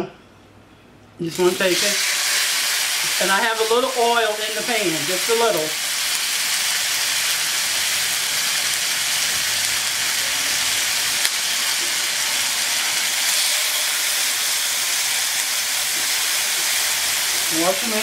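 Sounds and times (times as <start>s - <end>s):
chicken sizzling in grill pan: 1.3s - 18.0s.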